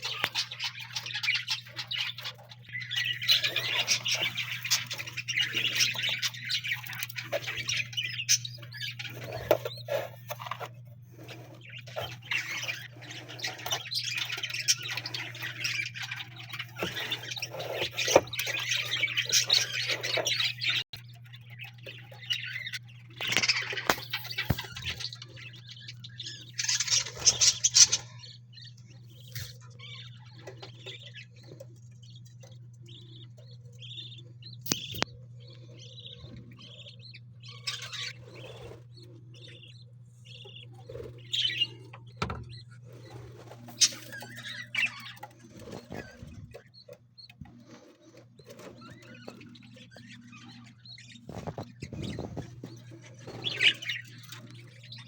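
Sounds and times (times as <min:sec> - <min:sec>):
birds chirping and chattering: 0:00.0 - 0:55.0.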